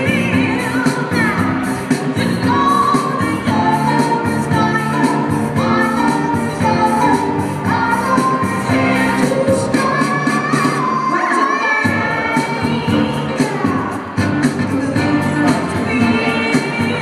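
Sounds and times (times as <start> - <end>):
pop music with singing: 0.0 - 17.0.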